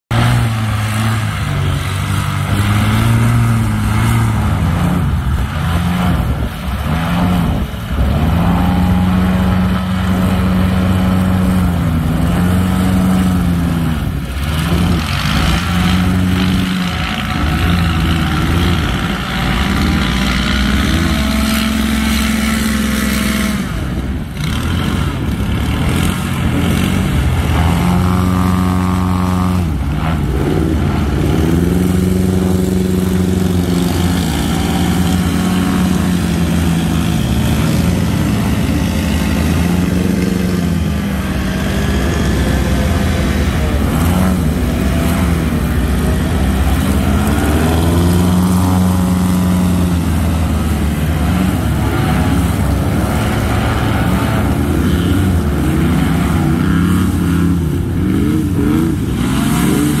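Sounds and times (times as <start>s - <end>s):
airboat engines revving: 0.0s - 60.0s.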